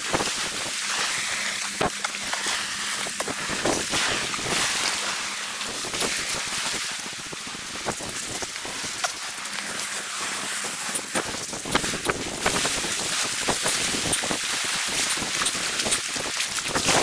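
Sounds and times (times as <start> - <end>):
sea washing on shingle: 0.0 - 17.0.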